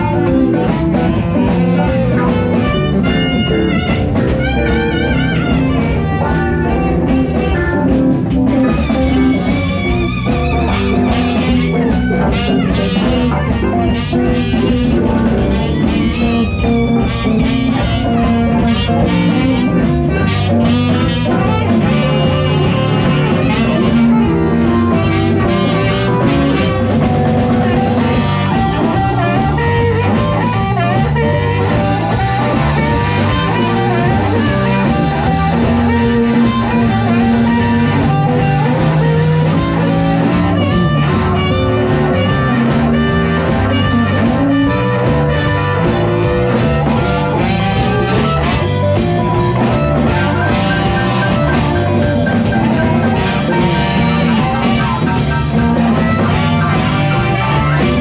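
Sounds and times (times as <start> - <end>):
harmonica: 0.0 - 58.0
live band playing: 0.0 - 58.0
saxophone: 0.0 - 58.0.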